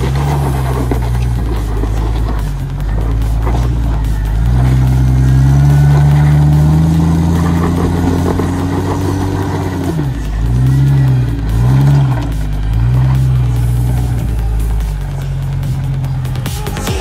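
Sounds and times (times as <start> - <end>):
engine revving in blips: 0.0 - 17.0
engine working under load: 0.0 - 17.0.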